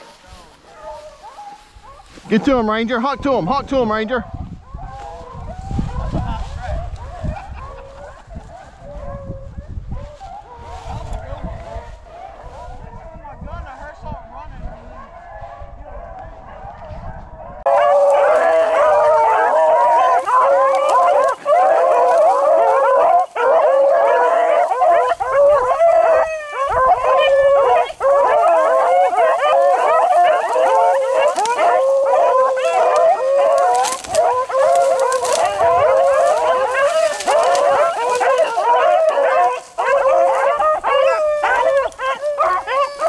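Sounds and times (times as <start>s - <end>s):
pack of hounds baying: 0.0s - 43.0s.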